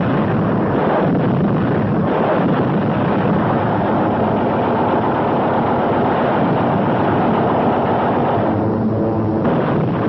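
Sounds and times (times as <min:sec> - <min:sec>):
aircraft engine noise: 0:00.0 - 0:10.0.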